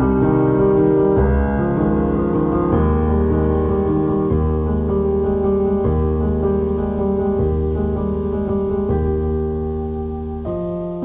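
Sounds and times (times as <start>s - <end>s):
instrumental music with held chords: 0.0s - 11.0s.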